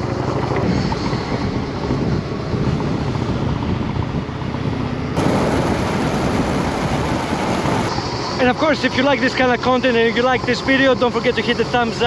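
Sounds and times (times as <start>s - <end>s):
wind rushing past microphone: 0.0s - 9.7s.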